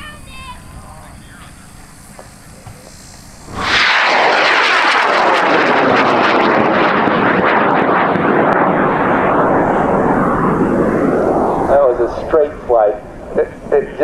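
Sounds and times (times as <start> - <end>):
rocket motor crackling roar: 0.0 - 14.0.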